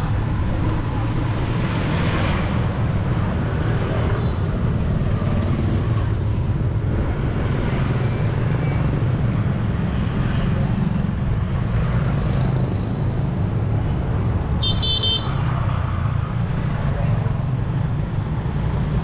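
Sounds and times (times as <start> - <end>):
passing motor vehicles rumble: 0.0 - 19.0.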